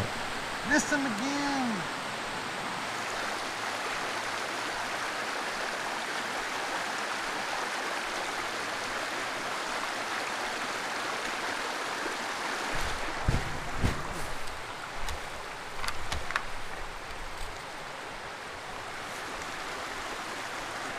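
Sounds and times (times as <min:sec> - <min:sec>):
stream water rushing over rocks: 0:00.0 - 0:20.9.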